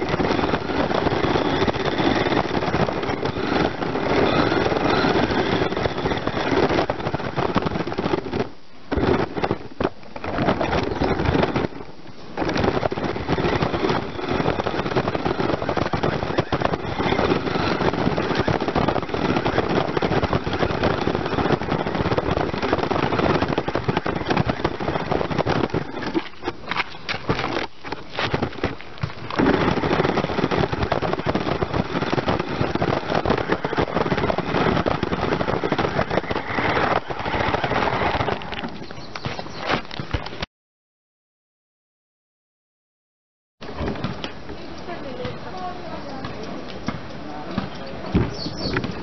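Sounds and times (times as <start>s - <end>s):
toy car rattling over gravel: 0.0s - 40.4s, 44.6s - 49.0s.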